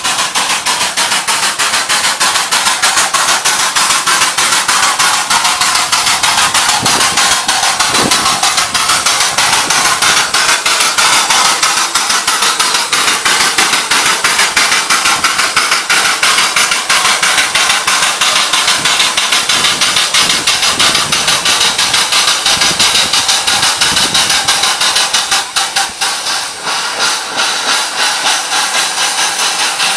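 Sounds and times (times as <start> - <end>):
steam locomotive hissing: 0.0 - 29.9.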